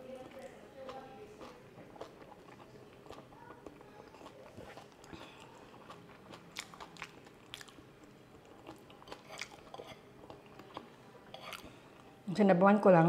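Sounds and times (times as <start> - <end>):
person chewing food: 0.2 - 12.2.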